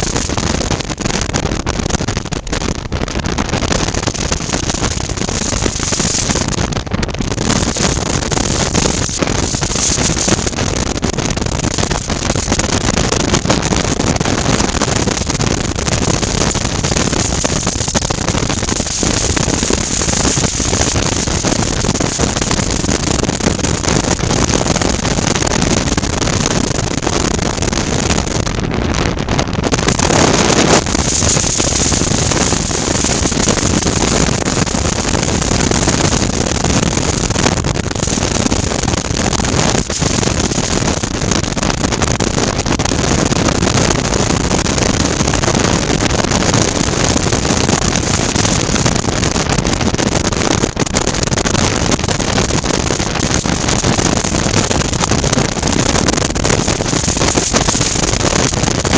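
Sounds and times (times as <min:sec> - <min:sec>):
wind rushing: 0:00.0 - 0:53.3.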